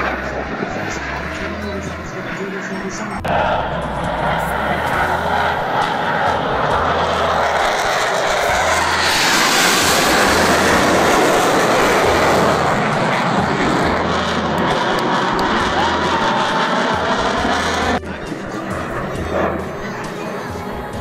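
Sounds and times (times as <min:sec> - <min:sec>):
jet engine roar overhead: 0:00.0 - 0:21.0.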